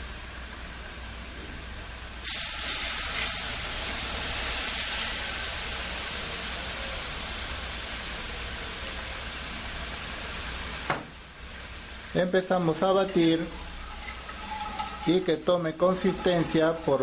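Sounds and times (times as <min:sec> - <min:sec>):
milk sizzling in hot pan: 0:02.1 - 0:17.0.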